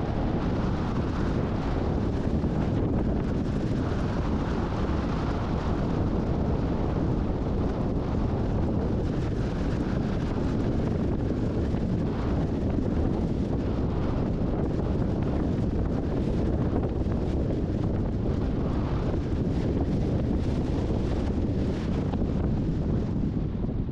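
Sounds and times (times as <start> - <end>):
storm wind buffeting microphone: 0.0 - 23.9.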